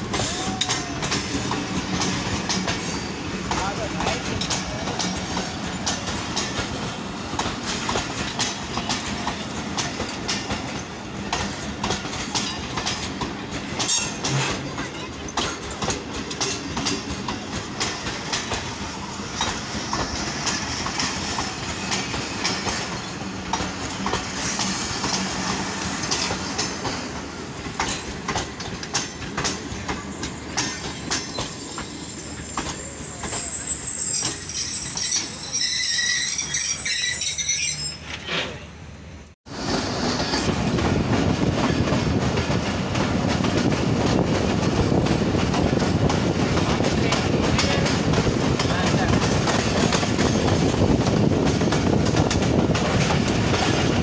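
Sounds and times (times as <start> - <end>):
train wheels clattering: 0.0 - 38.6, 39.7 - 54.0
train rumble: 0.0 - 54.0.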